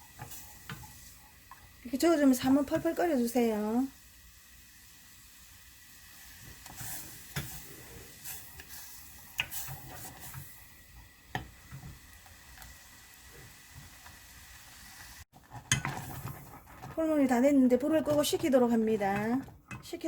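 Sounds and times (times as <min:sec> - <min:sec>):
rice paste simmering in a pot: 0:00.0 - 0:20.0.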